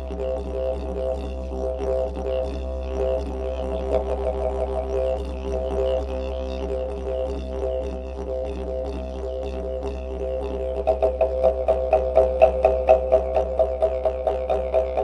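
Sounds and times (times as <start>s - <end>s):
didgeridoo droning: 0.0s - 15.0s.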